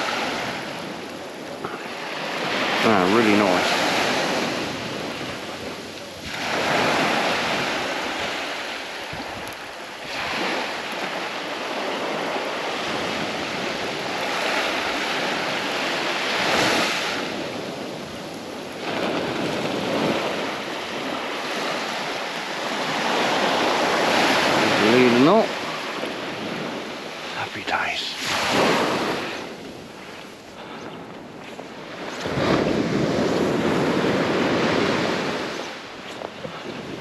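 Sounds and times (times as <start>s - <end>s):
waves breaking on shore: 0.0s - 37.0s.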